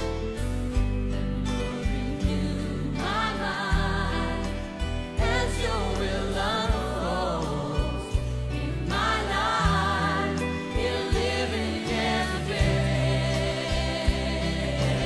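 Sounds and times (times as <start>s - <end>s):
held bass notes: 0.0s - 15.0s
voices singing with vibrato: 1.4s - 15.0s.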